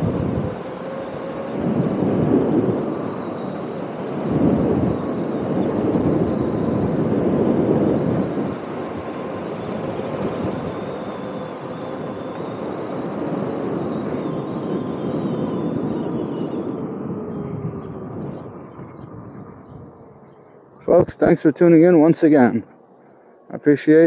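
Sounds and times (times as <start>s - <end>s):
wind buffeting microphone: 0.0s - 23.2s
faint steady whine: 0.0s - 24.0s.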